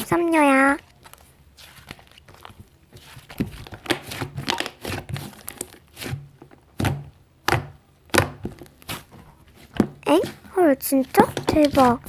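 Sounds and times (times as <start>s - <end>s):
crinkling and crackling: 0.0s - 12.0s.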